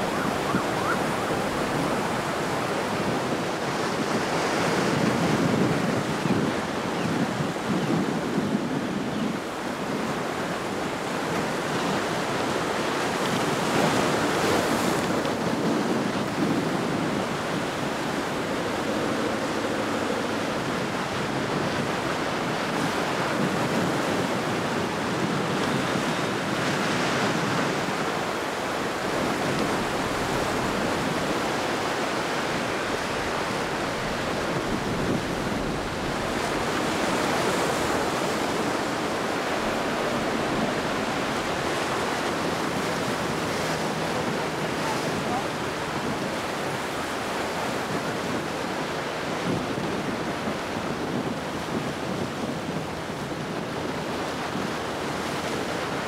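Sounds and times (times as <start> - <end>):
ocean waves breaking: 0.0 - 56.0
wind buffeting microphone: 0.0 - 56.0.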